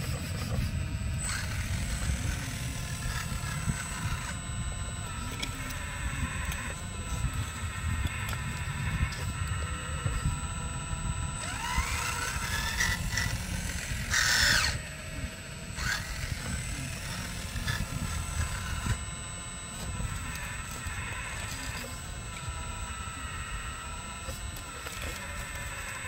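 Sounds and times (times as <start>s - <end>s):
electric motors whining: 0.0s - 26.0s
loud rasping burst: 0.0s - 26.0s.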